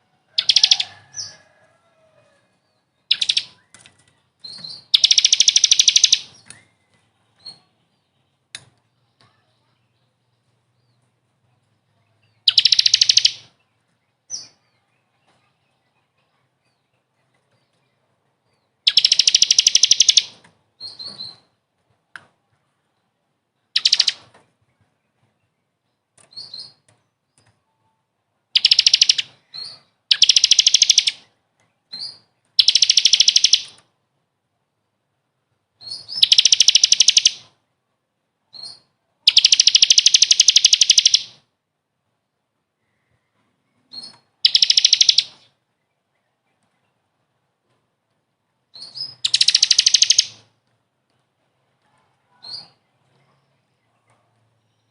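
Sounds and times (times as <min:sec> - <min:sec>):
songbird trilling and chirping: 0:00.2 - 0:21.6, 0:23.6 - 0:33.9, 0:35.8 - 0:37.6, 0:38.5 - 0:41.5, 0:42.8 - 0:47.2, 0:48.7 - 0:50.6, 0:51.9 - 0:54.9.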